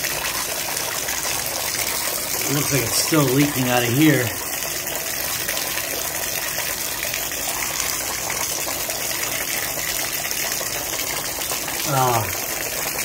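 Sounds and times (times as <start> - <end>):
water running into bathtub: 0.0 - 13.0.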